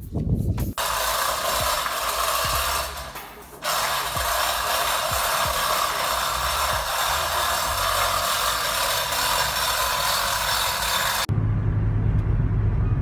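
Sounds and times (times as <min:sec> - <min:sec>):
mechanical whirring: 0:00.8 - 0:11.3.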